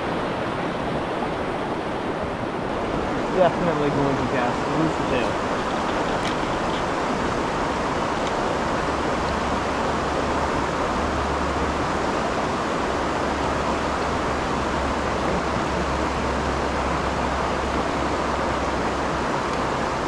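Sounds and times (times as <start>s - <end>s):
fast river current rushing: 0.0s - 20.0s.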